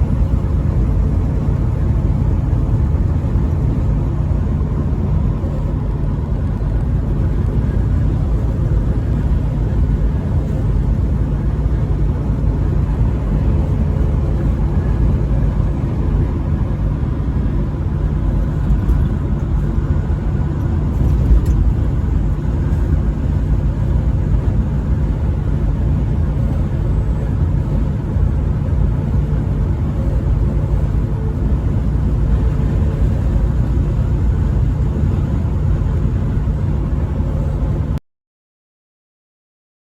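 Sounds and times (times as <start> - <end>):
truck engine and road rumble: 0.0 - 38.0.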